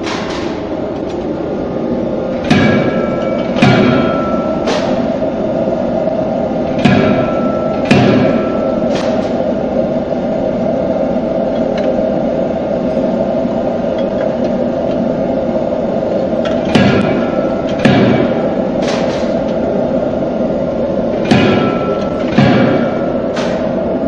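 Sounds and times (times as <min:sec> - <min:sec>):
steady machine hum: 0:00.0 - 0:24.0
forging hammer blows: 0:01.7 - 0:12.4, 0:13.3 - 0:24.0.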